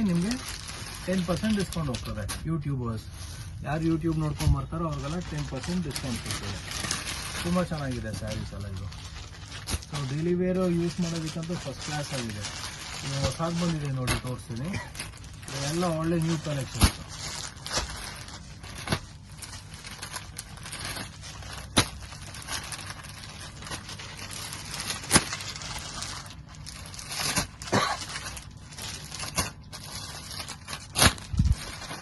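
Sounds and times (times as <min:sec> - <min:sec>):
fabric rustling: 0:00.0 - 0:32.0
plastic wrapping crinkling: 0:00.0 - 0:32.0.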